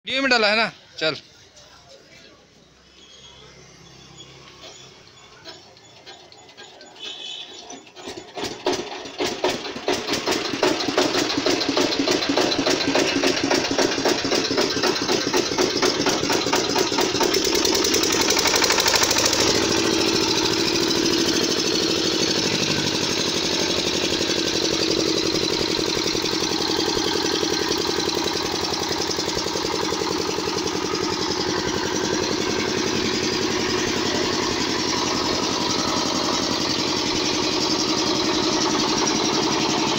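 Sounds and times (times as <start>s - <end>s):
diesel generator engine running: 0.8s - 39.9s.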